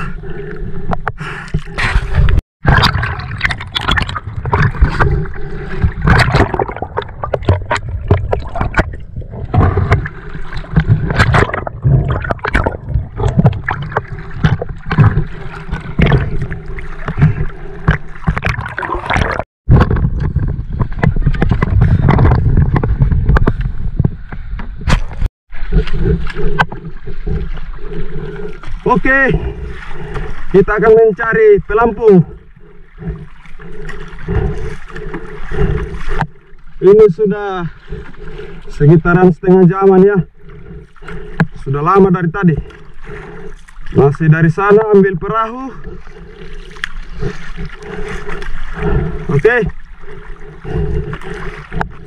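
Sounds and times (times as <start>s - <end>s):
sea water sloshing and splashing: 0.0s - 23.9s, 24.9s - 52.0s.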